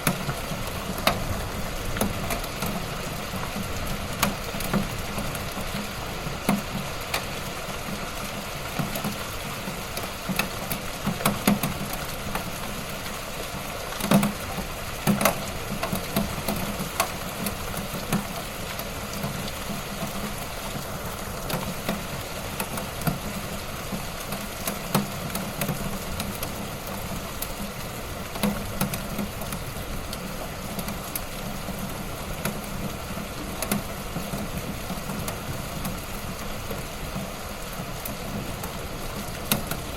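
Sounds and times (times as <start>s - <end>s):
light rain pattering: 0.0s - 39.9s
raindrops tapping close by: 0.0s - 39.9s.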